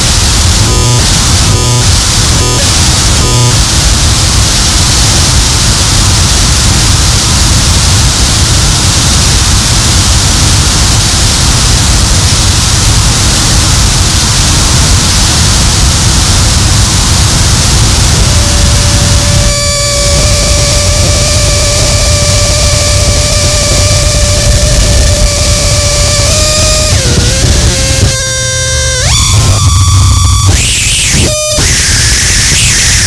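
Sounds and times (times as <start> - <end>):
dense low rumble: 0.0 - 30.6
static hiss: 0.0 - 33.0.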